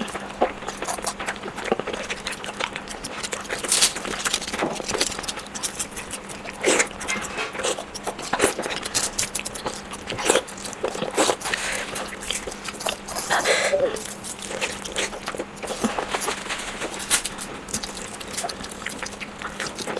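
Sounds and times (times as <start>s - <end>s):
faint steady hum: 0.0s - 19.9s
wet chewing and mouth smacks: 0.0s - 19.9s.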